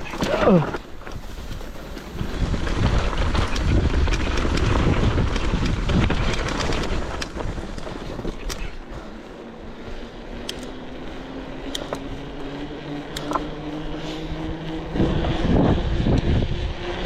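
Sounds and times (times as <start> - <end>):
bike rolling over rocky trail: 0.0 - 13.8
wind buffeting microphone: 0.8 - 17.0.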